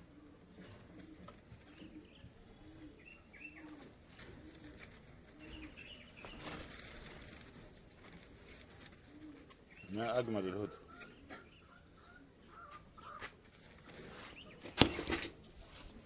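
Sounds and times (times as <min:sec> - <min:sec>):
rustle: 0:00.0 - 0:11.5, 0:12.4 - 0:16.0
dove cooing softly: 0:00.0 - 0:16.0.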